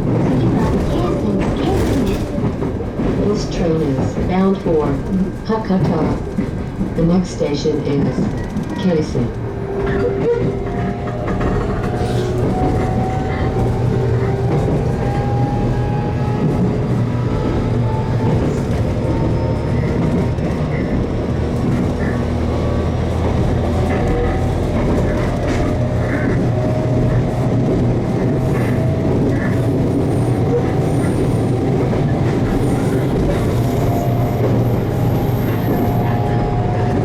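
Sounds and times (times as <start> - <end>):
wheels rumbling on rail: 0.0 - 37.0.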